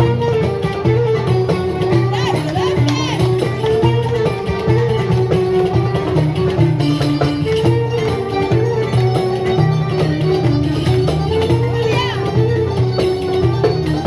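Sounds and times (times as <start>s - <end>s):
plucked string melody: 0.0s - 14.0s.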